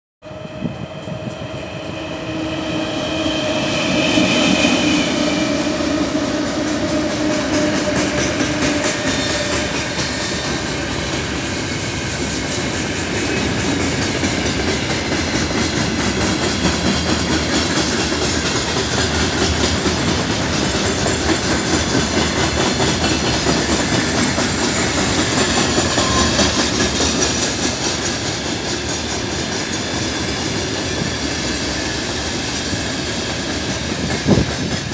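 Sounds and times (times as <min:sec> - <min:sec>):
locomotive steady tones: 0:00.2 - 0:34.9
train wagons rumbling and clacking: 0:00.2 - 0:34.9.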